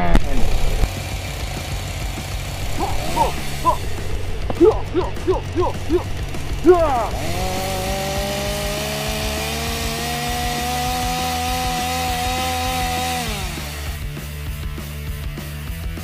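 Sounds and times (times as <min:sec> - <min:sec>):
chainsaw engine at high revs: 0:00.0 - 0:15.2.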